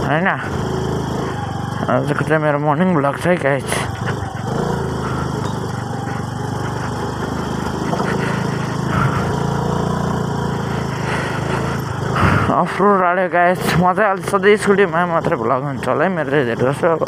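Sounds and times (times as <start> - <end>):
scooter engine running: 0.0 - 17.0
tyres on gravel: 0.0 - 17.0.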